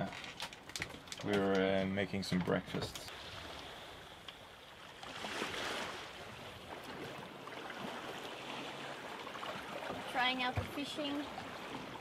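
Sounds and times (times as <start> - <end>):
water rushing along a hull: 0.0 - 12.0
wind: 0.0 - 12.0.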